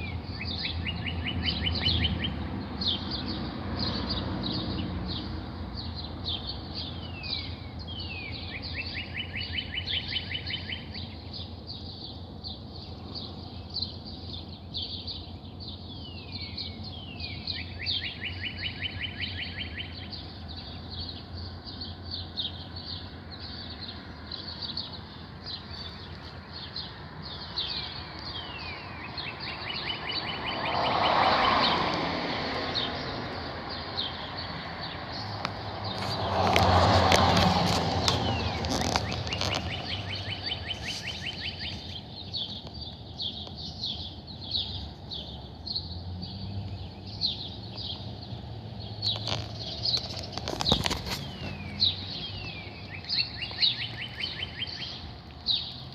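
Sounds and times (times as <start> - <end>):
bird trilled song: 0.0 - 31.8, 32.8 - 55.9
birds chirping: 0.0 - 55.9.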